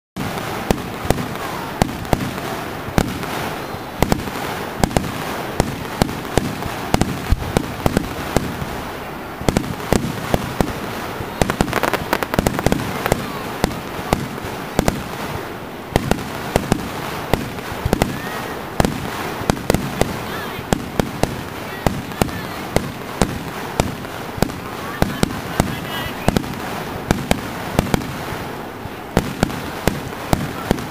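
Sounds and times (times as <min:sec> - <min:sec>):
continuous crackling hiss: 0:00.2 - 0:30.9
fireworks bangs and pops: 0:00.2 - 0:30.9.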